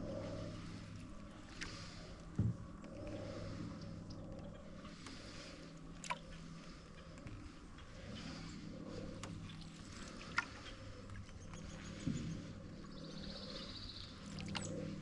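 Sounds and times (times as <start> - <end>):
low steady hum: 0.0 - 15.0
paddle strokes in water: 0.0 - 15.0.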